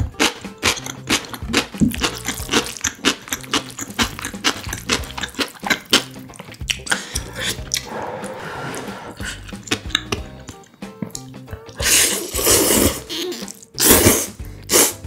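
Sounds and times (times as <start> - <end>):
wet chewing mouth sounds: 0.0 - 15.0.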